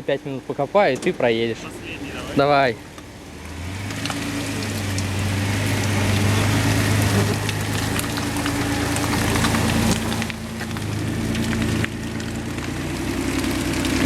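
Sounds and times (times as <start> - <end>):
mud spattering from spinning tyres: 0.0 - 14.0
engine revving under load: 1.0 - 14.0.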